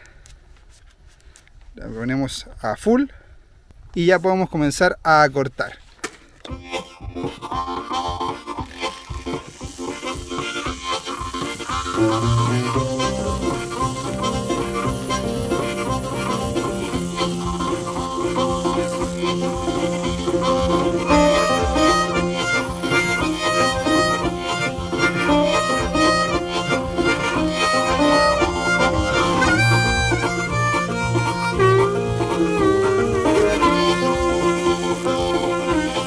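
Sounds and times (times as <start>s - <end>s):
instrumental background music: 6.5s - 36.0s.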